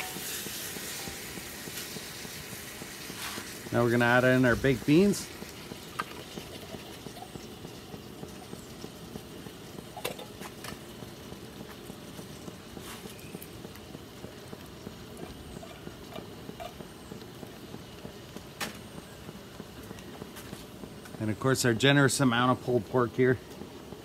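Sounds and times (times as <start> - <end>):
low sizzle from pan: 0.0 - 24.0.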